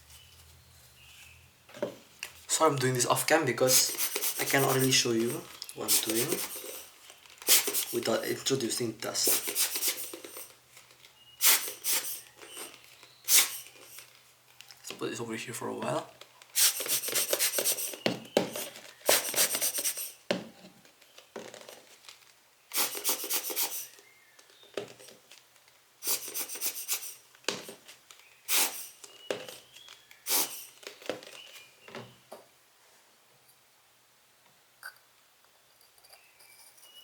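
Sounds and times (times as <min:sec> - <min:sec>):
rubbing and scraping of lens parts: 0:00.0 - 0:15.0, 0:15.8 - 0:32.2, 0:35.8 - 0:37.0.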